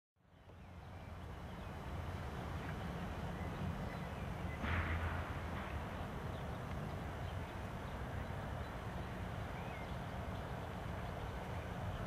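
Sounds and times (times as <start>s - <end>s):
distant jet engines rumbling: 0.3s - 12.0s
rush of noise: 0.8s - 12.0s.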